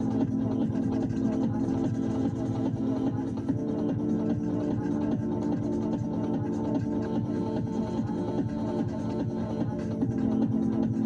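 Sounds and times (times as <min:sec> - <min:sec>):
electronic background music: 0:00.0 - 0:11.0.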